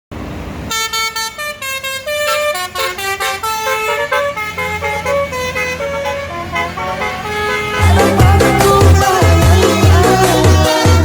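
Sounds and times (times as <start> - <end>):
bus engine hum: 0.1 - 11.0
bus horn melody: 0.6 - 11.0.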